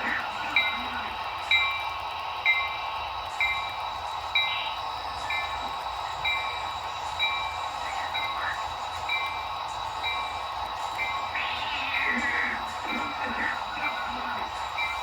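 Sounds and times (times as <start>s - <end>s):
model train bell ringing: 0.0s - 15.0s
train running hum: 0.0s - 15.0s.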